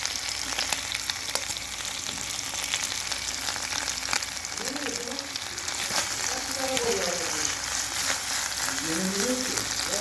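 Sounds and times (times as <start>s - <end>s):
squid sizzling in hot oil: 0.0s - 10.0s.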